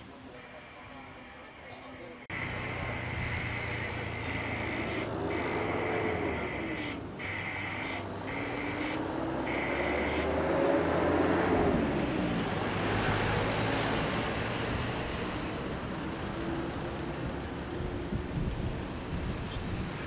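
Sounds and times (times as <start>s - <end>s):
jet engines roaring on takeoff: 2.3s - 20.0s.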